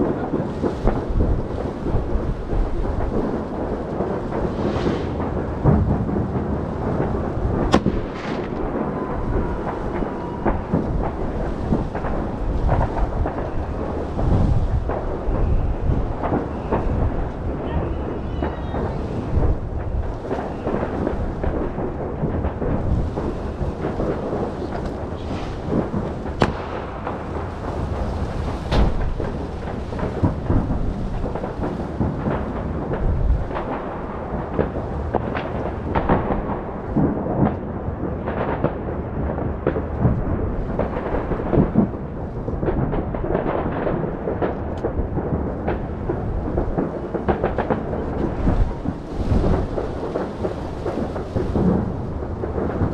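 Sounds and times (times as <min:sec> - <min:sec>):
fireworks booms rumbling: 0:00.0 - 0:52.9
sharp firework bangs: 0:00.0 - 0:52.9.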